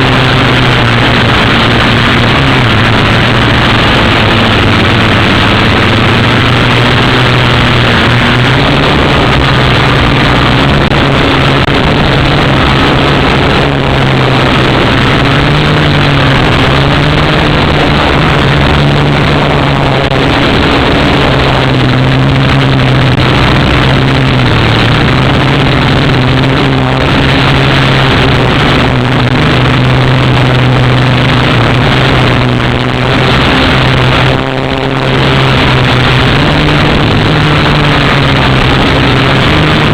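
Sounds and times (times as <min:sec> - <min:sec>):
drone propellers buzzing: 0:00.0 - 0:39.9
loud rushing noise: 0:00.0 - 0:39.9.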